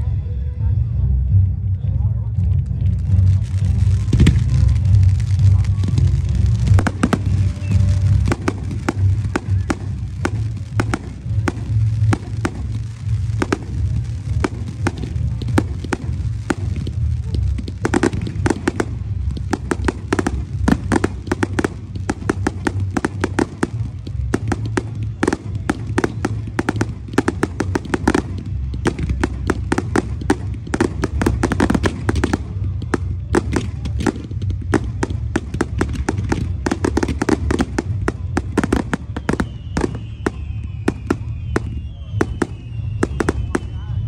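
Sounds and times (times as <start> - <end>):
low rumble: 0.0 - 44.0
fireworks cracks and bangs: 2.3 - 44.0.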